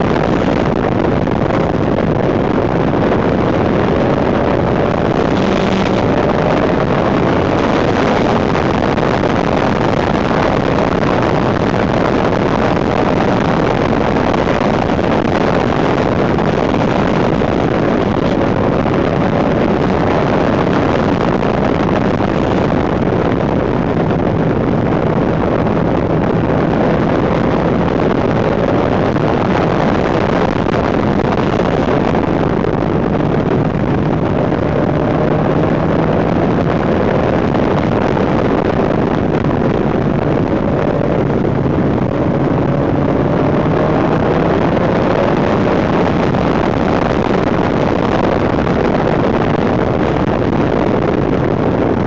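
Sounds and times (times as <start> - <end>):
motorcycle engine running: 0.0 - 46.6
wind rushing over microphone: 0.0 - 52.0.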